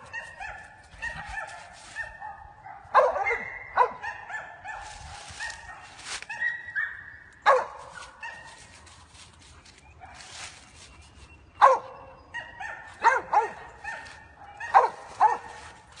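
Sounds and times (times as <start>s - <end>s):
dog barking: 0.0s - 8.8s, 11.6s - 16.0s.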